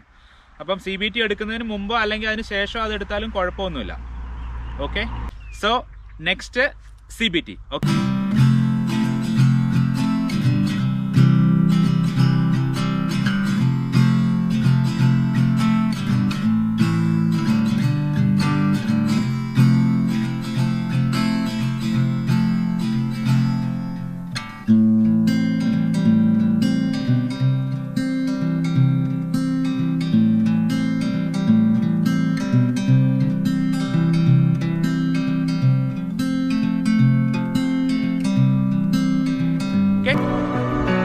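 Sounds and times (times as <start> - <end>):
strummed acoustic guitar: 7.8 - 41.0.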